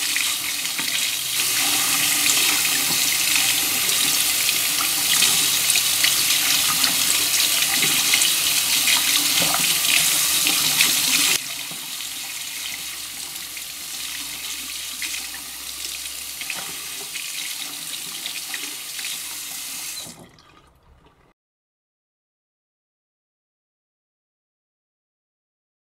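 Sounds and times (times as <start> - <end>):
tap water running into sink: 0.0 - 21.3.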